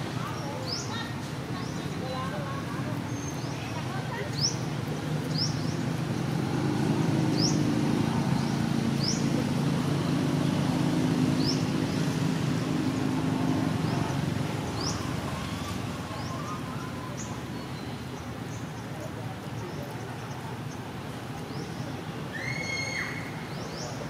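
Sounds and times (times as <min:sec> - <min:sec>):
vehicle engine humming: 0:01.1 - 0:22.3.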